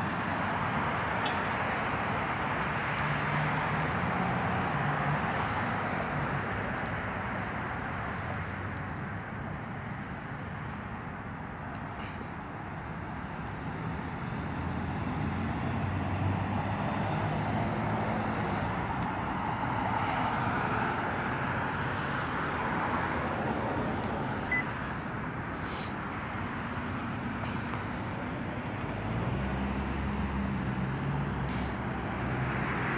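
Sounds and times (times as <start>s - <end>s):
road traffic: 0.0s - 32.9s.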